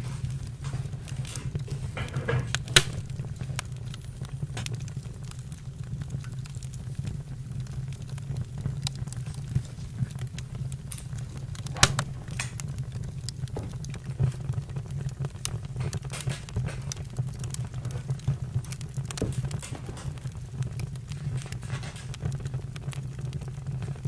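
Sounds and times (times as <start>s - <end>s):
campfire pops and snaps: 0.0s - 24.0s
fire low rumble: 0.0s - 24.0s.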